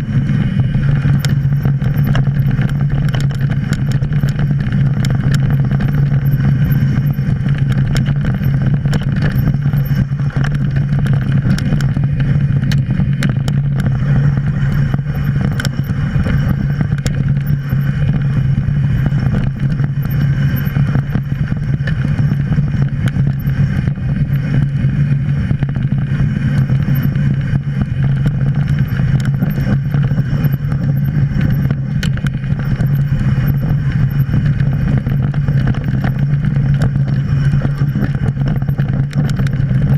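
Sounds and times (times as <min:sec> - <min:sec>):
bike rattling and knocking: 0:00.0 - 0:39.9
bike tyres humming on dirt: 0:00.0 - 0:39.9.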